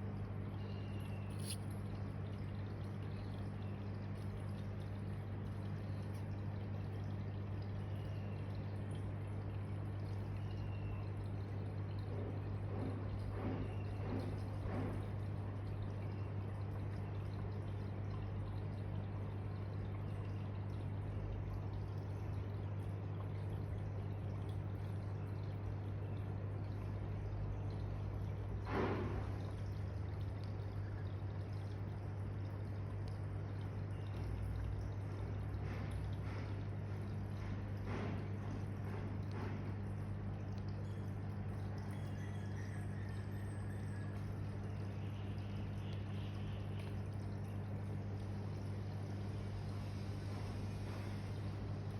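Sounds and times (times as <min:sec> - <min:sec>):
aquarium water trickling: 0:00.0 - 0:51.9
low steady hum: 0:00.0 - 0:51.9.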